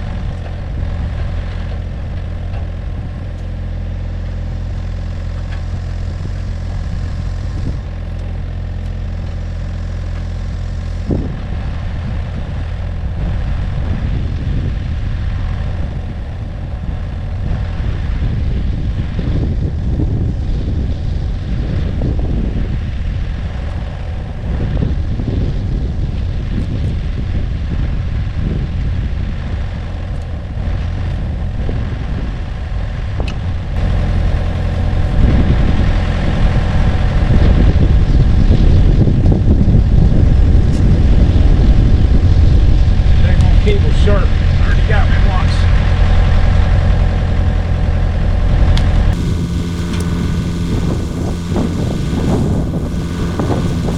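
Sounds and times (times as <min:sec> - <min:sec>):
mini excavator diesel engine: 0:00.0 - 0:27.1, 0:28.4 - 0:53.9.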